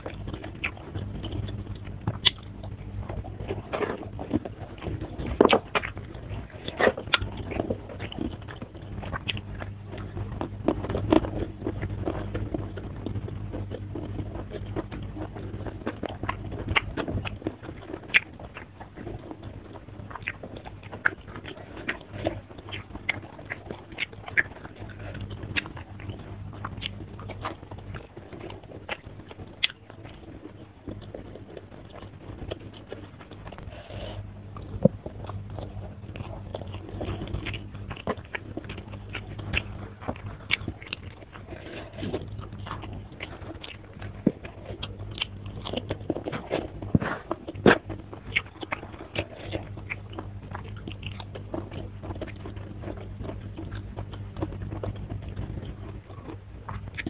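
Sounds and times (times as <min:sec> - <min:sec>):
food crunching: 0:00.0 - 0:57.0
person chewing and lip smacking: 0:00.0 - 0:57.0
steady low hum: 0:00.0 - 0:57.0.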